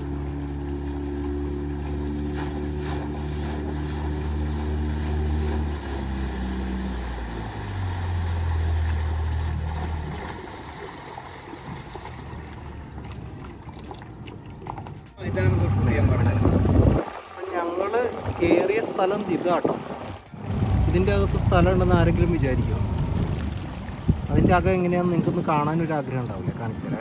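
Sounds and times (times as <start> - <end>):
outboard boat engine running: 0.0 - 27.0
water noise: 0.0 - 27.0
wind: 0.0 - 27.0.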